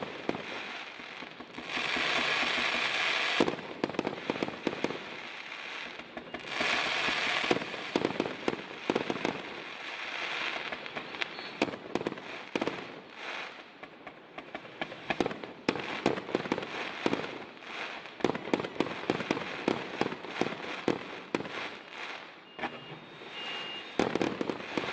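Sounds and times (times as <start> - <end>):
fireworks launch reports and bangs: 0.0 - 24.9.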